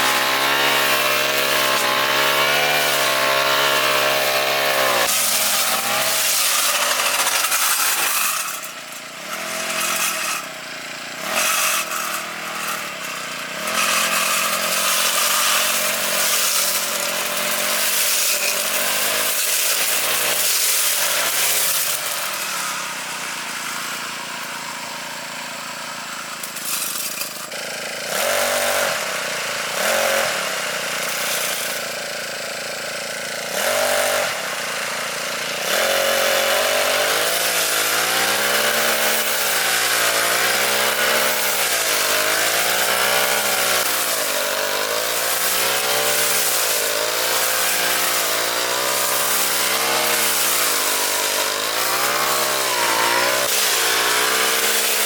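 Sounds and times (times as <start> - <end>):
grass cutter engine revving: 0.0 - 55.0.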